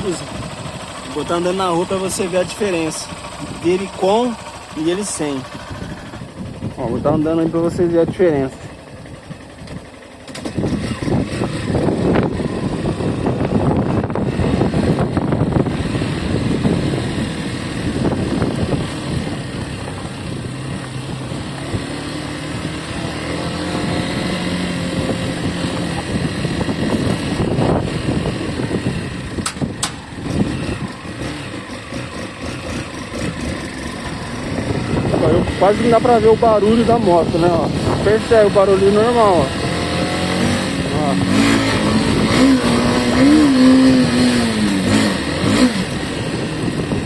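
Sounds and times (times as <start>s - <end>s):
motorcycle engine hum: 0.0s - 47.0s.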